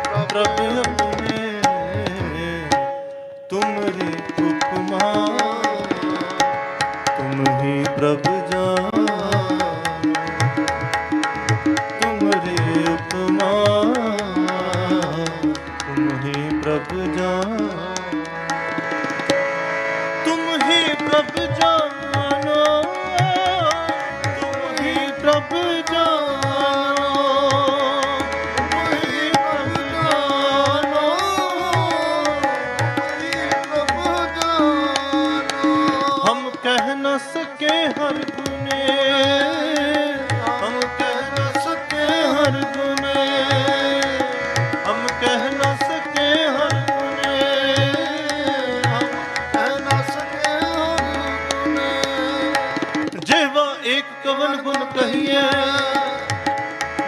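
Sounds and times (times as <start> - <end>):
harmonium held notes: 0.0 - 57.0
person singing wordless melody: 0.0 - 57.0
tabla rhythm: 0.0 - 57.0.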